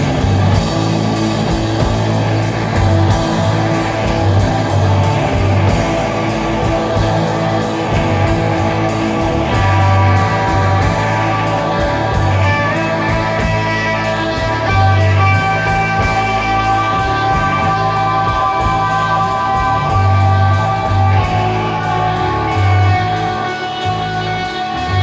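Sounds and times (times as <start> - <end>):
electric guitar long held notes: 0.0 - 25.0
pulsing bass: 0.0 - 25.0.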